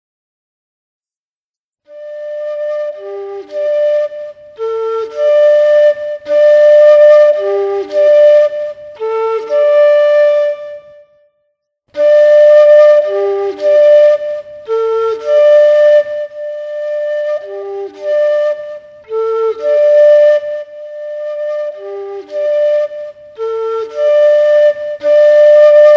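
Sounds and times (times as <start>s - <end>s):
bamboo flute melody: 1.9s - 25.9s.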